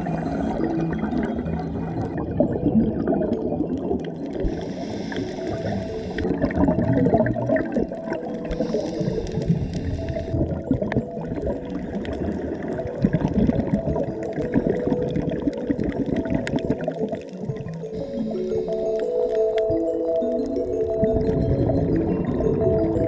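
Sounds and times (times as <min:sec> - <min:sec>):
underwater gurgling and bubbling: 0:00.0 - 0:23.0.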